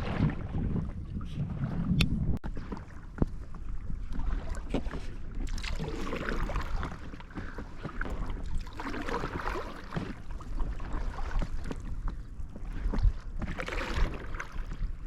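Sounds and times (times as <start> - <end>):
paddle splashing: 0.0 - 15.0
water sloshing around kayak: 0.0 - 15.0
wind rumbling on microphone: 0.0 - 15.0.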